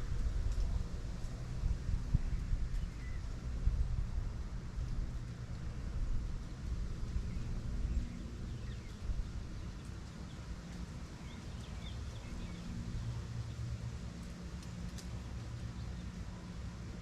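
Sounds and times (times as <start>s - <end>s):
low rumble with engine hum: 0.0s - 17.0s.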